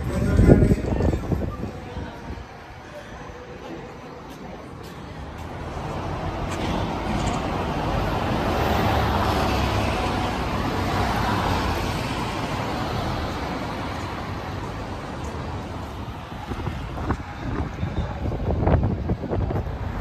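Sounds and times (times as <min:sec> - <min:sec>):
bus passing close: 0:00.0 - 0:20.0
cars on road: 0:00.0 - 0:20.0.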